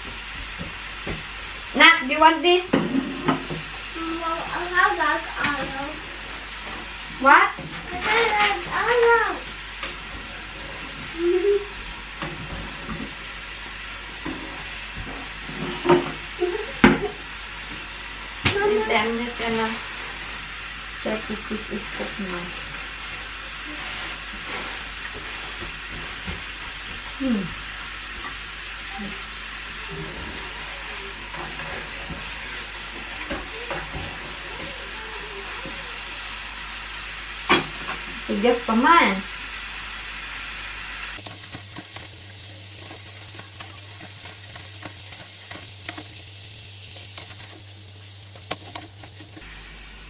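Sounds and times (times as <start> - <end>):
food sizzling in a pan: 0.0 - 50.0.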